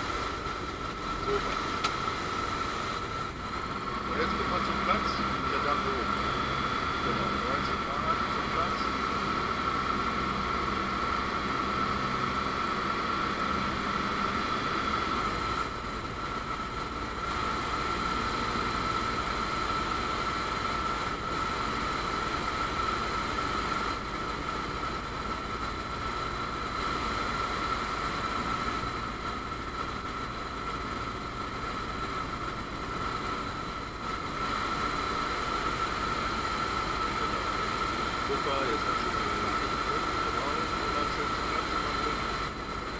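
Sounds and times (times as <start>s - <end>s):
aircraft engine and propeller droning: 0.0s - 42.9s.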